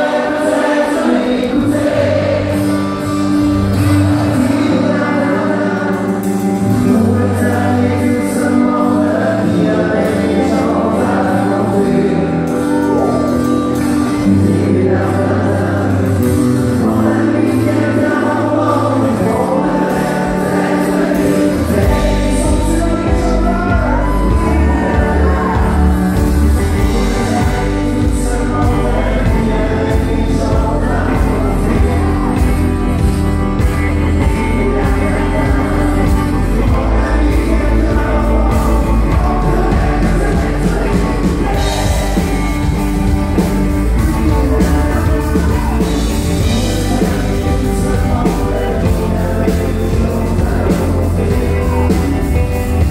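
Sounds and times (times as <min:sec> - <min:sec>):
bass and drums: 0:00.0 - 0:52.9
electric and acoustic guitars: 0:00.0 - 0:52.9
person singing lead: 0:00.0 - 0:52.9.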